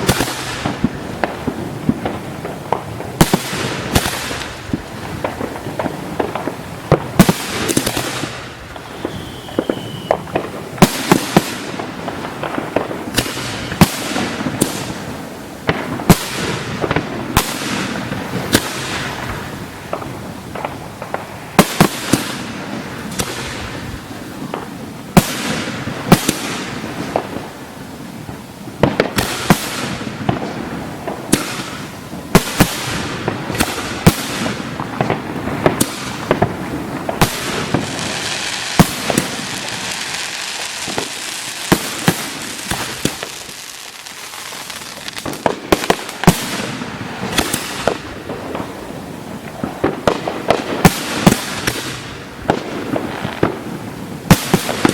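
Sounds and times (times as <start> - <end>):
fireworks booming: 0.0 - 54.9
fireworks hiss and crackle: 0.0 - 54.9.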